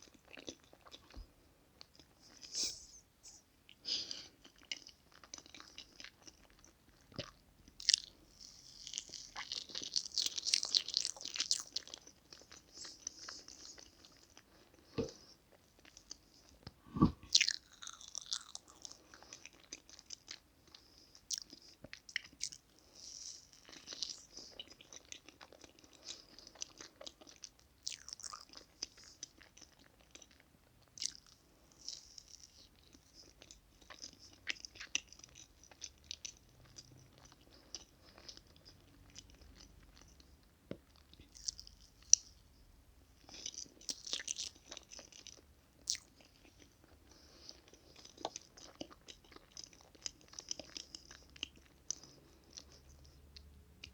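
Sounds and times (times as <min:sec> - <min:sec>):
wet chewing and mouth clicks: 0:03.7 - 0:42.4, 0:43.2 - 0:53.9.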